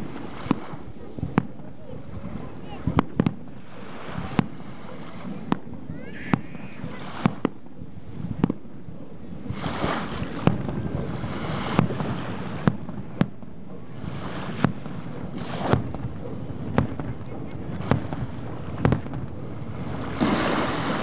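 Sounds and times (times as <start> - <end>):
distant fireworks bangs: 0.0 - 21.0
small waves on shore: 0.0 - 21.0.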